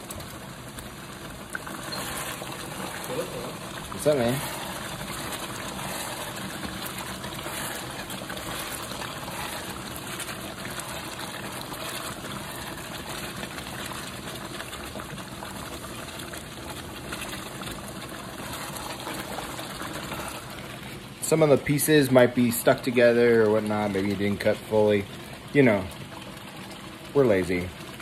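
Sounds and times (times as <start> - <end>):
sauce bubbling and sizzling in a skillet: 0.0 - 28.0.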